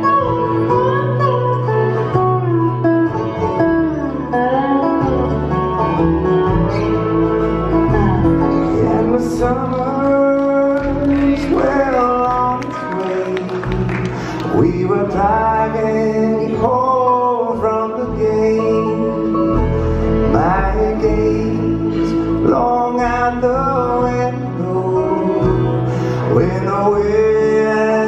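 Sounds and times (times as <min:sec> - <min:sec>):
acoustic guitar: 0:00.0 - 0:28.0
banjo: 0:00.0 - 0:28.0
fiddle: 0:00.0 - 0:28.0
resonator guitar: 0:00.0 - 0:28.0
upright bass: 0:00.0 - 0:28.0.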